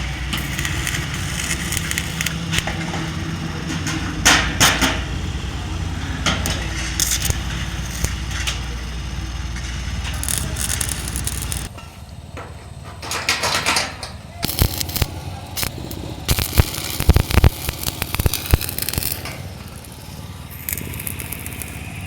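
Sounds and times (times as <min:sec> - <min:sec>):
arc welding crackle: 0:00.0 - 0:11.8, 0:14.4 - 0:22.0
metallic bursts: 0:00.0 - 0:12.0, 0:13.0 - 0:22.0
low machine hum: 0:00.0 - 0:13.3, 0:14.2 - 0:22.0.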